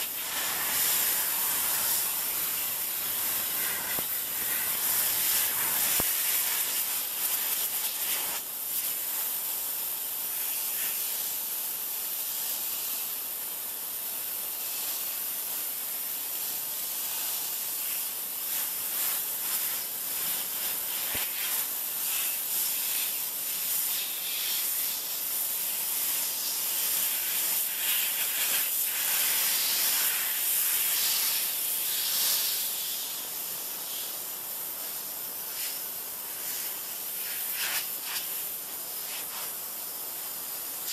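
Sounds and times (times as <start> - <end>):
pressure washer spray hissing: 0.0 - 40.9.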